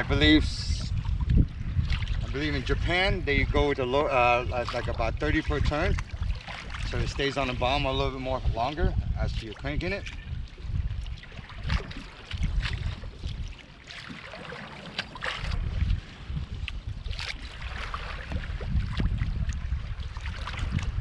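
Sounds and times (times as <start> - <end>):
wind buffeting microphone: 0.0 - 14.2, 15.0 - 21.0
waves slapping kayak hull: 0.0 - 21.0.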